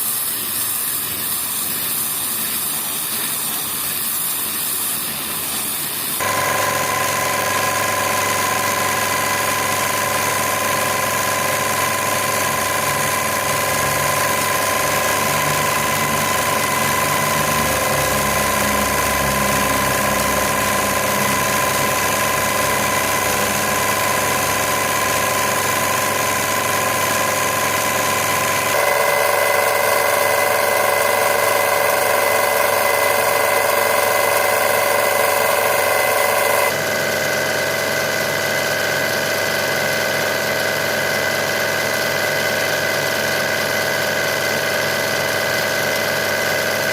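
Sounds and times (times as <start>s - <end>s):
pressure washer humming: 0.0s - 46.9s.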